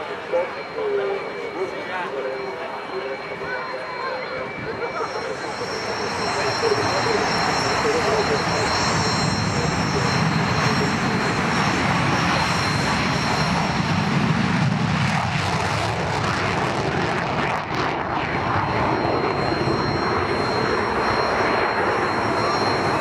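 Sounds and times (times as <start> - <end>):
jet fighter engine roar: 0.0 - 23.0.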